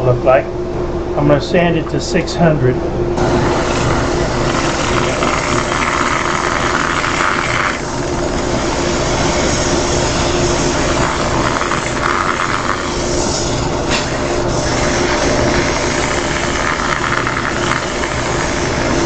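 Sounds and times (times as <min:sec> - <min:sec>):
machines humming: 0:00.0 - 0:19.0.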